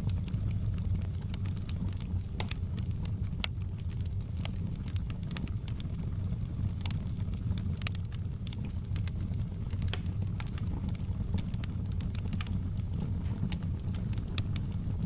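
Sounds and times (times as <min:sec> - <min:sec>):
fire burning rumble: 0:00.0 - 0:15.0
fire popping and snapping: 0:00.0 - 0:15.0.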